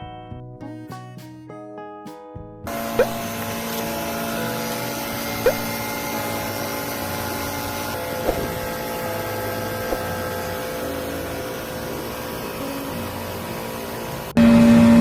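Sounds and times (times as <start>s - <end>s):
machine hum with low throb: 2.7s - 15.0s.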